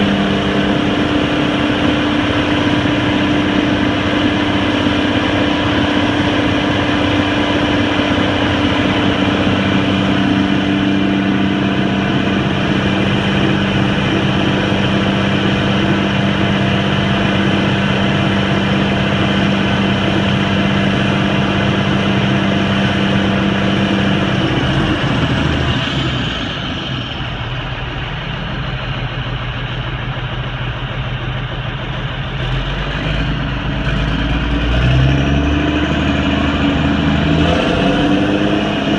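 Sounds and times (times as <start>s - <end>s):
high whine falling in pitch: 0.0s - 32.1s, 33.3s - 38.9s
concrete mixer truck engine humming: 0.0s - 38.9s.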